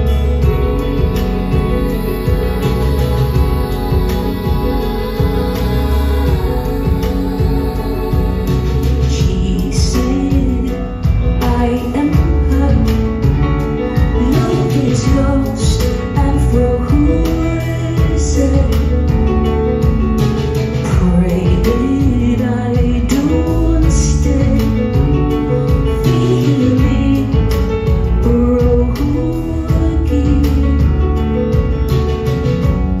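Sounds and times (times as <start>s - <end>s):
woman singing: 0.0s - 19.4s, 20.8s - 31.3s
bass and drums: 0.0s - 33.0s
grand piano: 0.0s - 33.0s.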